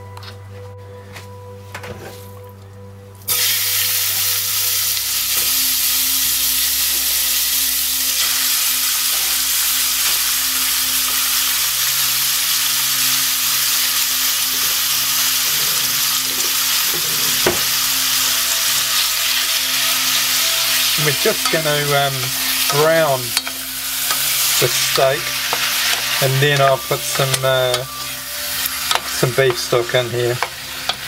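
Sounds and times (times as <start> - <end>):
meat sizzling in hot oil: 3.3 - 31.0.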